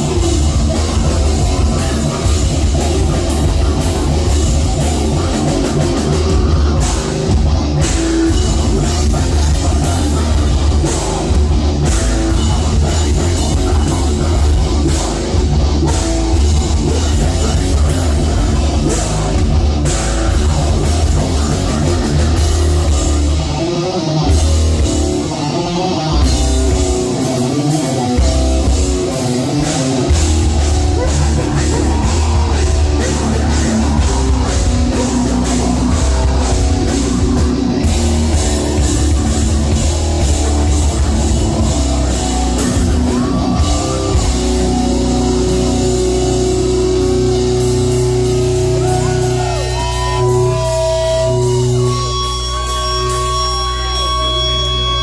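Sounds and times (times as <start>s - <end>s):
distorted guitars: 0.0s - 55.0s
drum kit: 0.0s - 55.0s
heavy bass: 0.0s - 55.0s
heavy metal band playing live: 0.0s - 55.0s.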